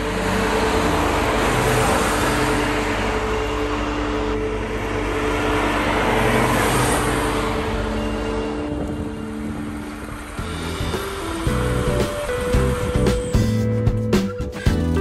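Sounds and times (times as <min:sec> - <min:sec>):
car engine driving past: 0:00.0 - 0:13.6
tyres hissing on wet road: 0:00.0 - 0:13.8.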